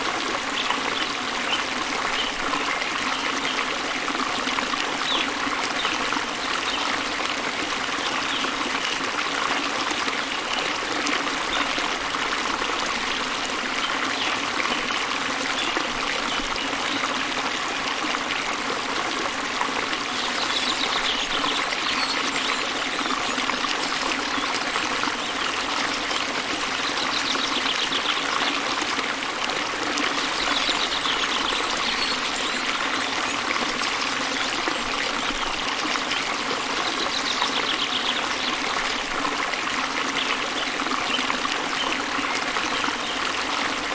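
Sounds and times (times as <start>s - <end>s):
waterfall and stream splashing: 0.0s - 43.9s.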